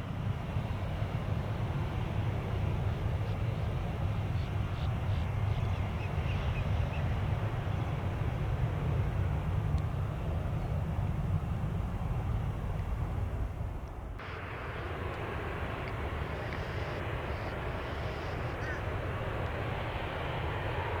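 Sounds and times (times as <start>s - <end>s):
distant jet engines rumbling: 0.1s - 21.0s.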